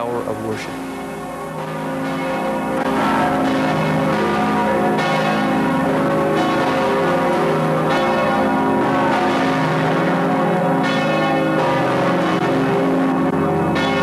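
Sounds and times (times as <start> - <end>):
large tower bells pealing: 0.0 - 14.0.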